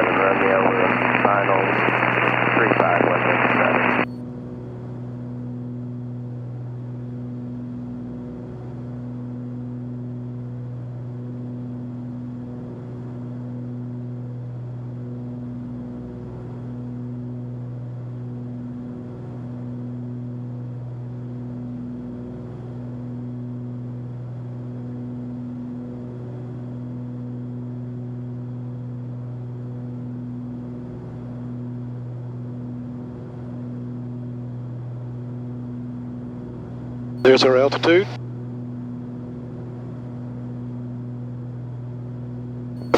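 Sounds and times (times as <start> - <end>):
aircraft engines and propellers droning: 0.0 - 42.7.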